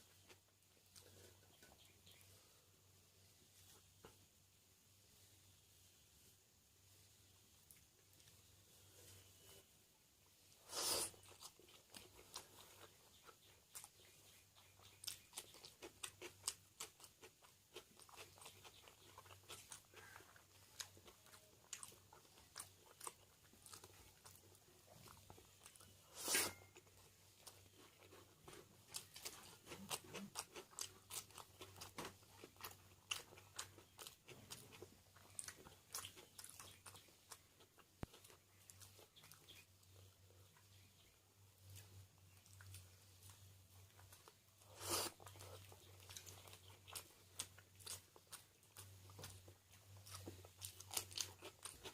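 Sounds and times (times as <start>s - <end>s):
person chewing and crunching food: 0.0s - 4.4s, 7.5s - 51.9s.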